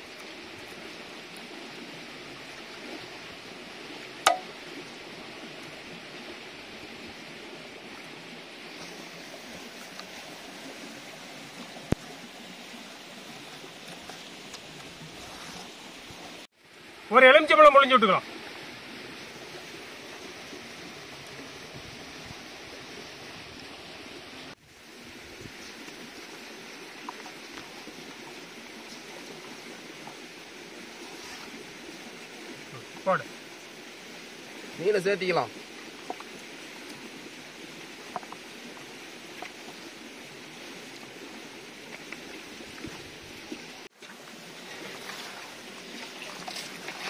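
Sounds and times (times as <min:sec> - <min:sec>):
outdoor background hiss: 0:00.0 - 0:47.0.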